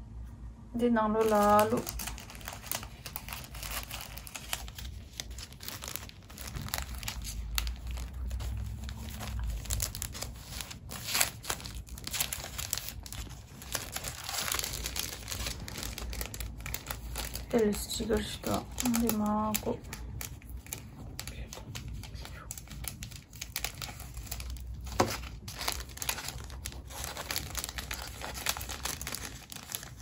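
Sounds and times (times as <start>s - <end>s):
plastic bags crinkling: 1.1s - 30.0s.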